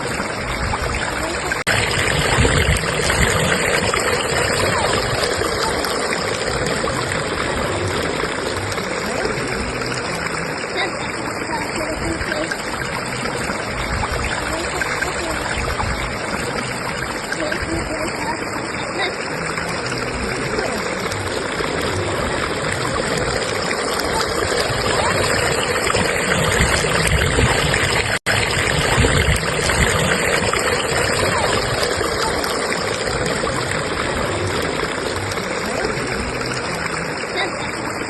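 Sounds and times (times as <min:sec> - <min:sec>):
stream rushing over rocks: 0:00.0 - 0:38.0.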